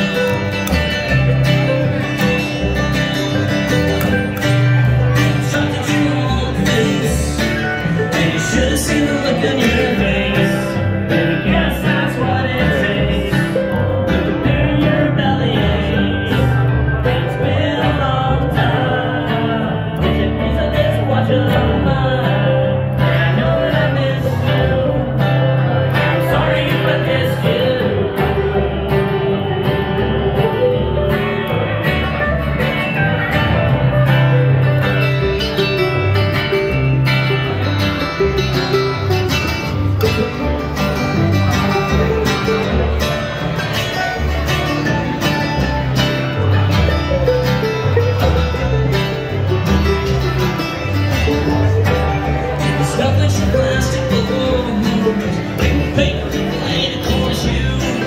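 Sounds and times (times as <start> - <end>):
mandolin: 0.0 - 58.0
plucked upright bass: 0.0 - 58.0
strummed acoustic guitar: 0.0 - 58.0.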